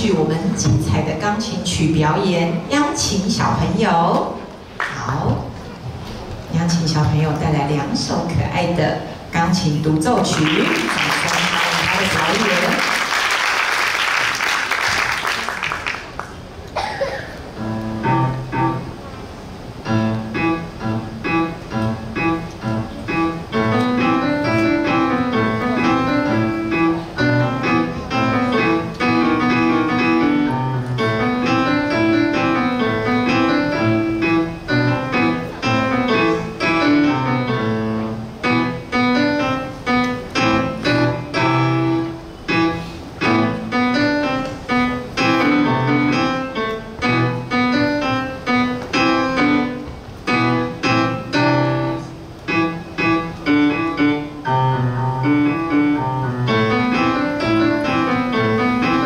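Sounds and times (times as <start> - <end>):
piano solo: 10.0 - 59.0.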